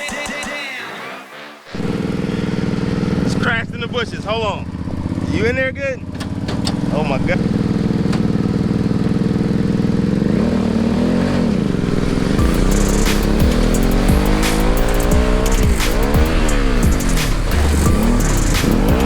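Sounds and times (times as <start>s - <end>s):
kart engine idling and revving: 1.7s - 19.0s.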